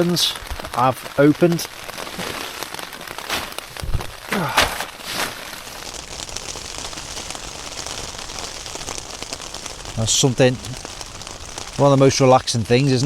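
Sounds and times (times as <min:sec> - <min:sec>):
rain pattering on tent: 0:00.0 - 0:13.0
rustles: 0:00.0 - 0:13.0.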